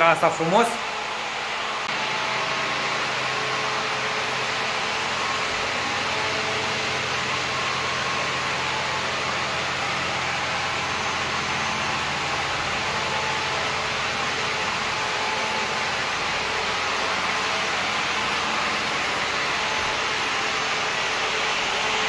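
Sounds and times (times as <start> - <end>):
blower fan rushing air: 0.0 - 22.0.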